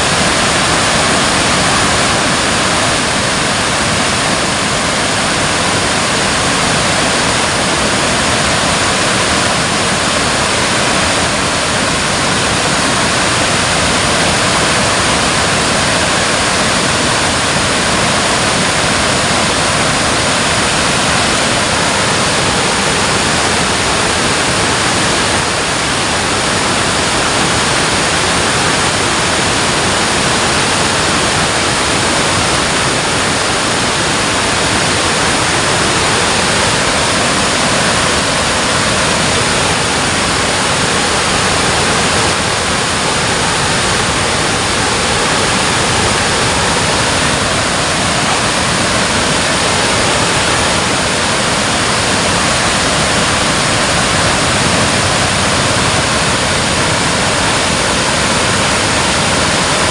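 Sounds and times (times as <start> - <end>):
water pouring over a dam: 0.0 - 59.9.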